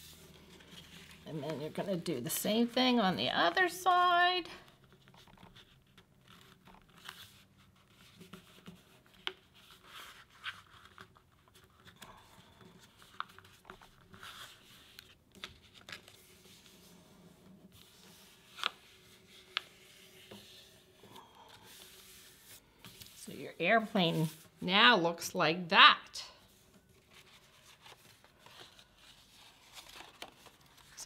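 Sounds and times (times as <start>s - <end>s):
paper rustling and scraping: 0.0s - 3.8s, 4.8s - 24.6s, 26.4s - 31.0s.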